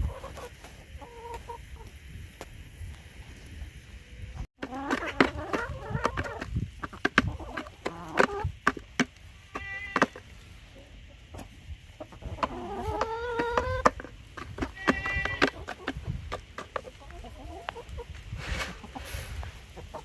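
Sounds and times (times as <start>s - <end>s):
chickens clucking and squawking: 0.0s - 2.4s, 3.9s - 20.0s.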